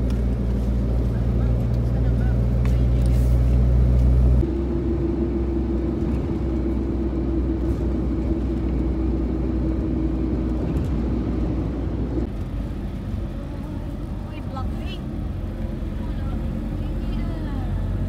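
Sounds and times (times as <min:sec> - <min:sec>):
engine hum: 0:00.0 - 0:18.0
road noise inside vehicle: 0:00.0 - 0:18.0.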